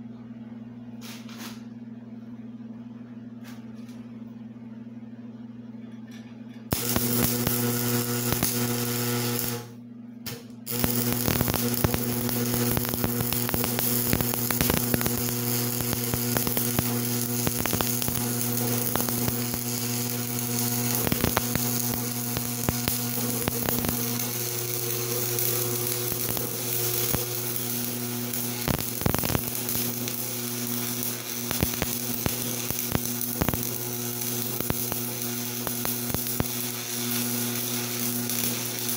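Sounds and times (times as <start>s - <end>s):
welding machine electrical hum: 0.0s - 38.9s
welding arc crackling: 6.7s - 38.9s.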